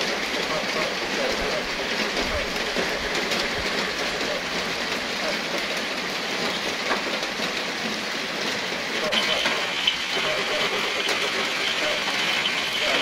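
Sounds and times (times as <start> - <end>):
heavy rain on metal roofing: 0.0 - 13.0.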